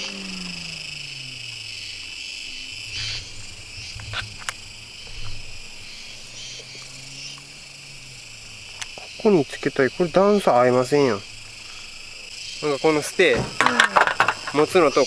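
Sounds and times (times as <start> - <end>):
crickets and night insects: 0.0 - 15.0.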